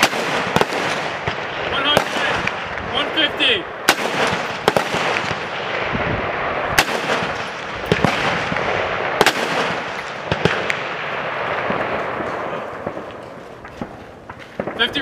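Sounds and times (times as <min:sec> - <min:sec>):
rifle shots echoing: 0:00.0 - 0:15.0.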